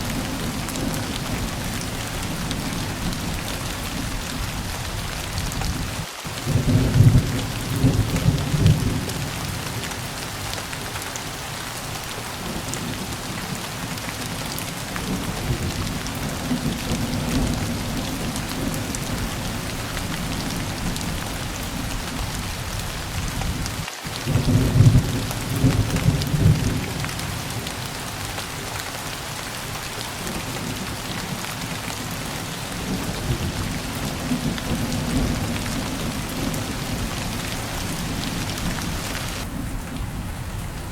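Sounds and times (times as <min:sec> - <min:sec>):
low rolls of thunder: 0:00.0 - 0:10.9, 0:12.2 - 0:28.4, 0:30.1 - 0:40.9
steady rain falling: 0:00.0 - 0:40.9.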